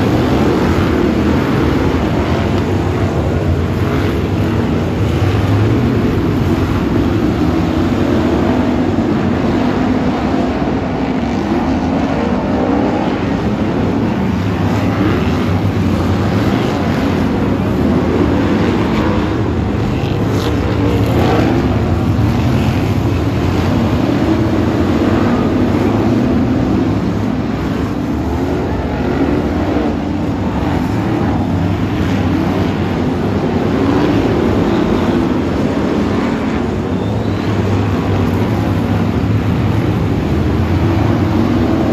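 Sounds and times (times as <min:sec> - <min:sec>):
racing car engines droning: 0:00.0 - 0:41.9.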